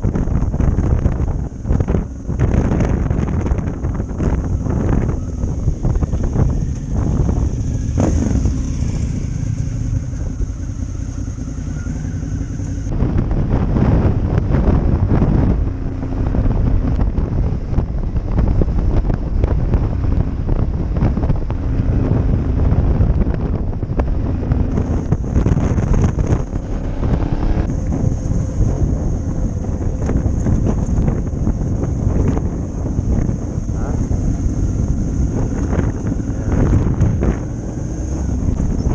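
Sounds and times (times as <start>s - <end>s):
motorcycle engine: 0.0s - 38.9s
wind buffeting microphone: 0.0s - 38.9s.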